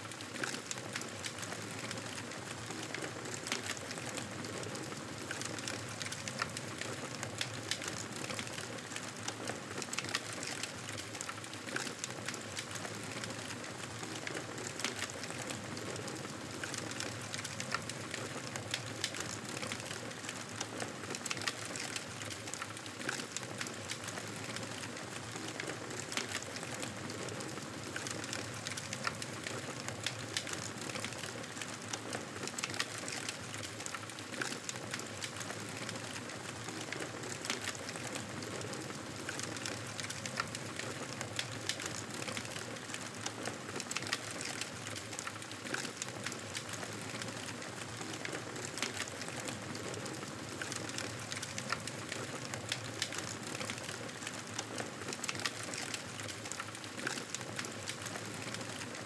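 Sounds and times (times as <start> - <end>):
campfire wood crackling: 0.1 - 59.0.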